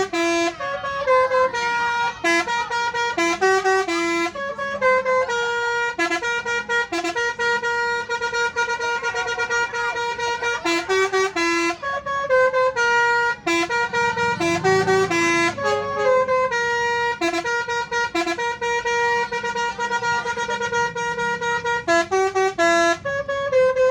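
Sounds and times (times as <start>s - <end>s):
bus musical horn melody: 0.0s - 23.9s.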